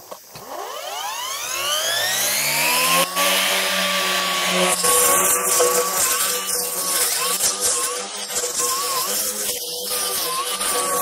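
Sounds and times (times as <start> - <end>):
brush cutter motor whining: 0.1 - 11.0.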